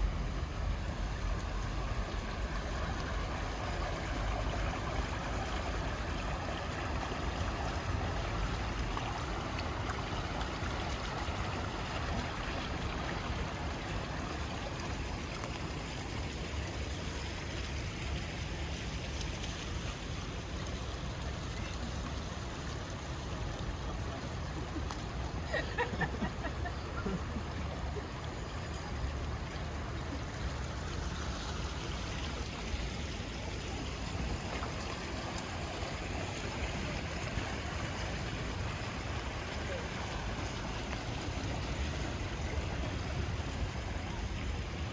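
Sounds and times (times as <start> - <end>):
rain on pavement: 0.0 - 44.9.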